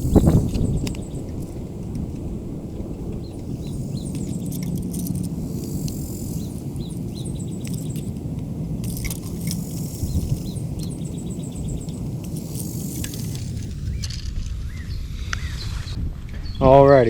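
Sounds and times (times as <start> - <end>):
light clicking and rustling: 0.0 - 14.6
small birds chirping: 0.0 - 17.0
wind rumbling on microphone: 0.0 - 17.0.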